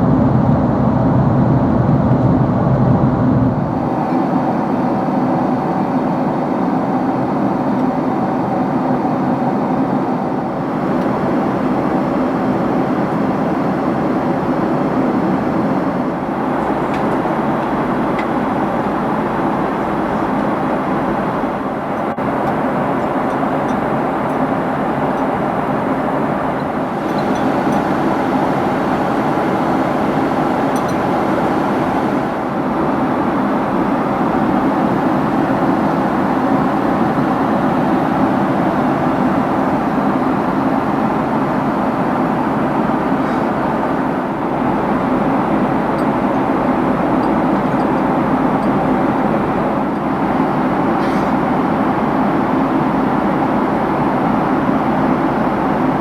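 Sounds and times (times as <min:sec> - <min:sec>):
drone of aircraft engines: 0:00.0 - 0:56.0.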